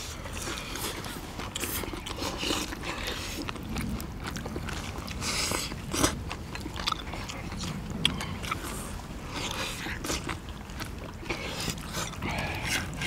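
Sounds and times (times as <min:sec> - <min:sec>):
people chewing and crunching: 0:00.0 - 0:13.0.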